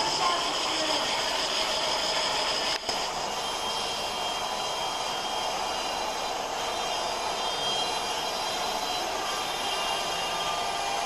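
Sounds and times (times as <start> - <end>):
model train whirring: 0.0 - 11.0.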